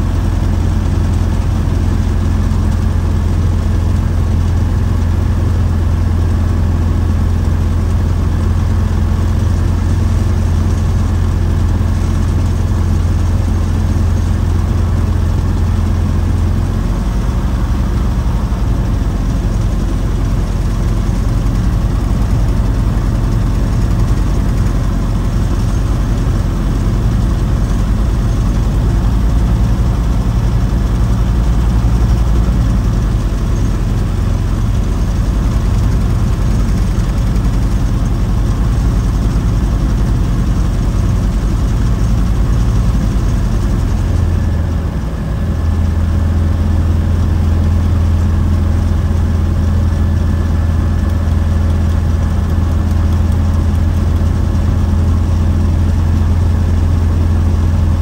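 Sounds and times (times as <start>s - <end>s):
light aircraft engine and propeller: 0.0s - 58.0s.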